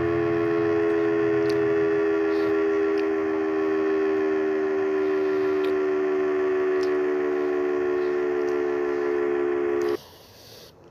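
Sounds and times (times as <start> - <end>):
steady warning siren tone: 0.0 - 10.0.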